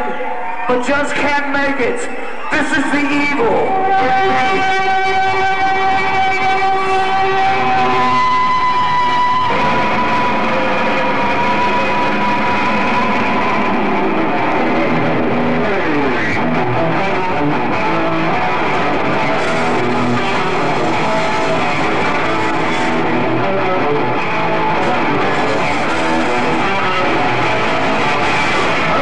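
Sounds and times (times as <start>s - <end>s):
distorted electric guitar: 0.0s - 29.0s
drums: 0.0s - 29.0s
live rock band playing: 2.2s - 29.0s.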